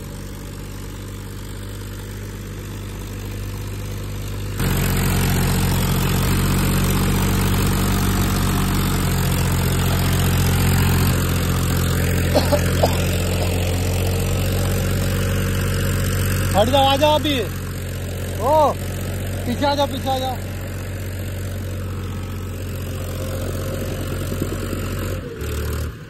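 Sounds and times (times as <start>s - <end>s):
tractor diesel engine straining: 0.0s - 26.0s.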